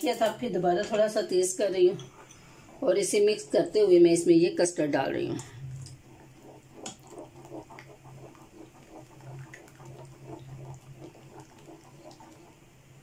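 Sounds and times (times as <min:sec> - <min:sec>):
steady low hum: 0:00.0 - 0:13.0
metal spoon stirring milk in pan: 0:00.8 - 0:12.8
custard mixture pouring: 0:01.3 - 0:13.0.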